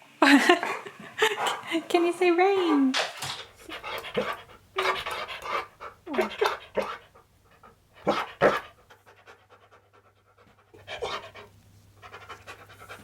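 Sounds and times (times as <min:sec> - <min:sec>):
dog panting: 0:00.4 - 0:13.0.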